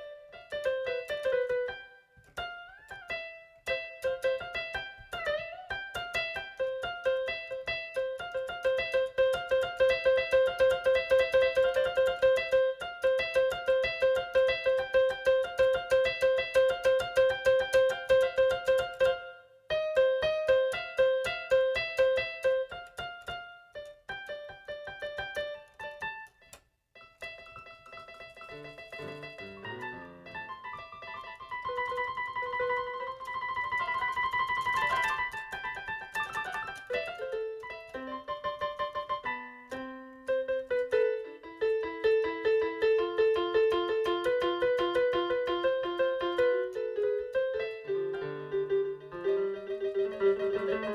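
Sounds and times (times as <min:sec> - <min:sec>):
electric keyboard music: 0:00.0 - 0:50.9.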